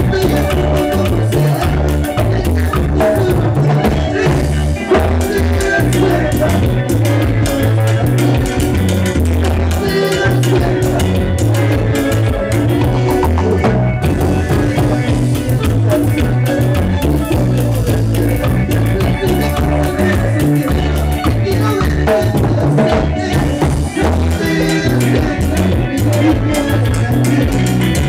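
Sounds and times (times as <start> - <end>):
electric bass line: 0.0 - 28.0
latin band playing: 0.0 - 28.0.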